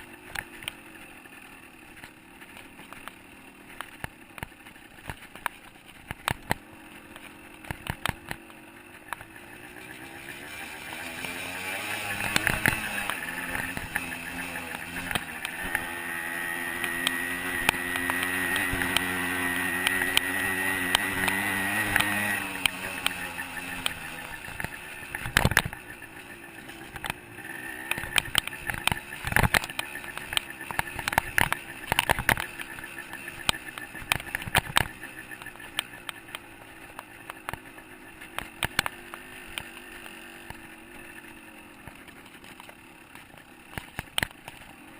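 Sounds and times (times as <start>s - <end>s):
dirt bike engine revving: 0.0s - 44.9s
sharp clicks and knocks: 1.9s - 9.4s, 11.1s - 27.2s, 27.8s - 44.8s.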